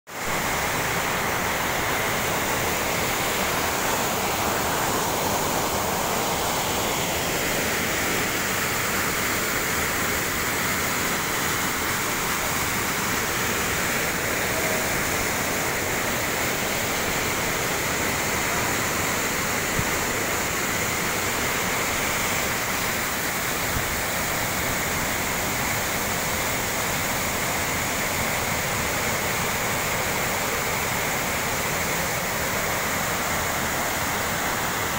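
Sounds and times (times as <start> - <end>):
waterfall rushing over rock: 0.1 - 34.9.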